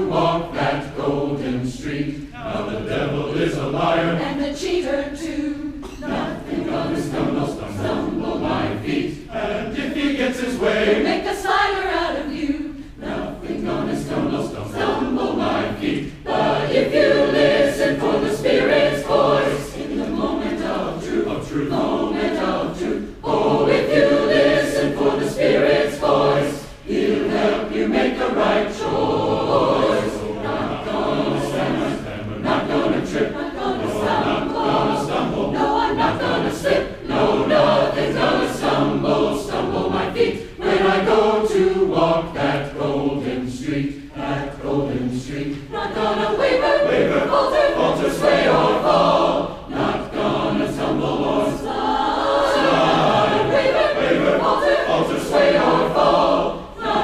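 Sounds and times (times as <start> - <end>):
choir singing gospel song: 0.0 - 57.0.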